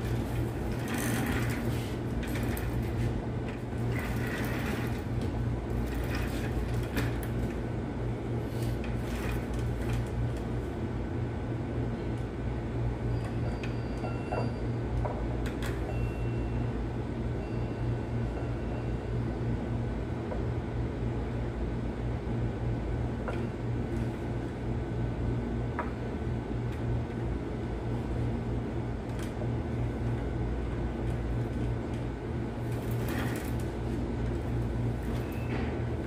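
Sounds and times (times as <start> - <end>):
low machine hum: 0.0 - 36.0.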